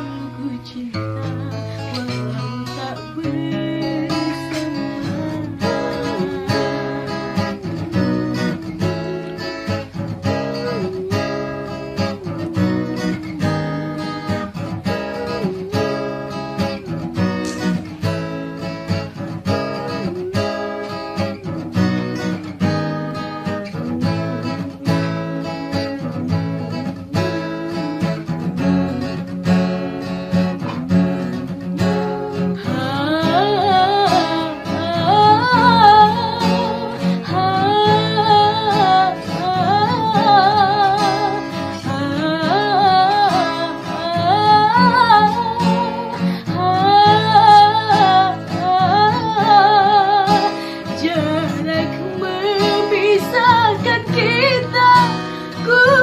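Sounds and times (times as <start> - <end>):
wavering melody line: 0.0 - 50.4
acoustic guitar strumming: 0.0 - 56.0.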